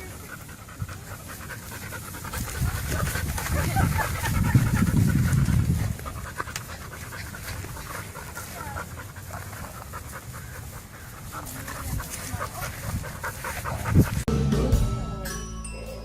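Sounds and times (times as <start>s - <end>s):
dog panting: 0.0s - 14.3s.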